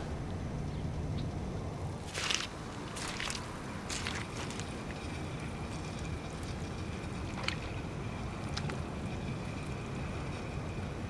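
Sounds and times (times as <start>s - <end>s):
faint high whine: 0.0s - 11.0s
wind buffeting microphone: 0.0s - 11.0s.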